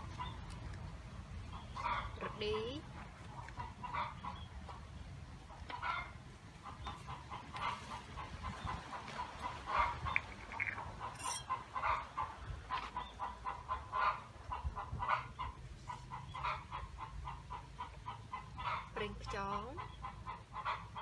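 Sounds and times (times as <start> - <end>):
chickens clucking: 1.4 - 21.0.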